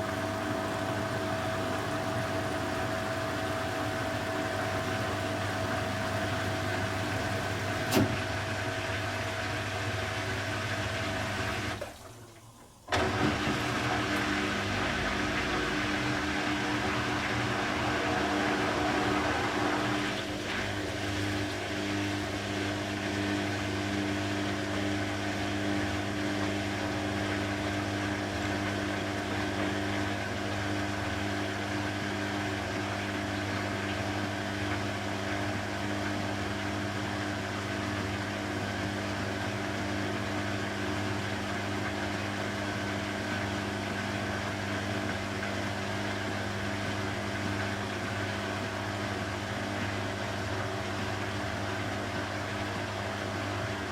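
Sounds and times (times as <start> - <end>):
washing machine humming: 0.0 - 53.9.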